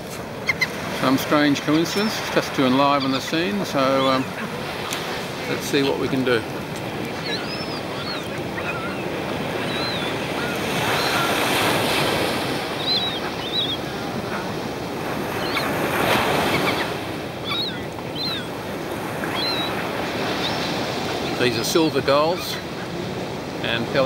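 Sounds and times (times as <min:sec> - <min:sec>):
gulls calling: 0:00.0 - 0:24.0
surf washing onto beach: 0:00.0 - 0:24.0.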